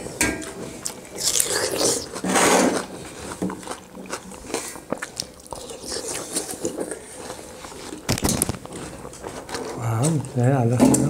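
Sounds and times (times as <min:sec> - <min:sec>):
chewing watermelon with crunching bites: 0:00.4 - 0:10.7.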